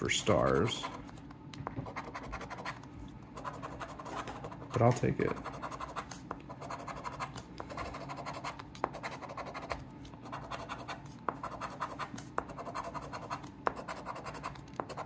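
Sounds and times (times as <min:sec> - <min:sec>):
scratching lottery ticket: 0:00.0 - 0:01.2, 0:01.8 - 0:15.0.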